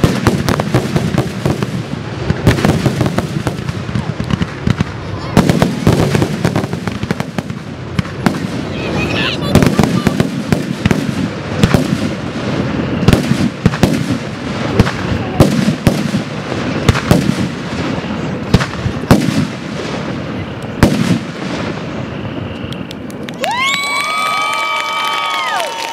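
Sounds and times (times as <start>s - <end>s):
fireworks bursting with bangs: 0.0s - 23.7s.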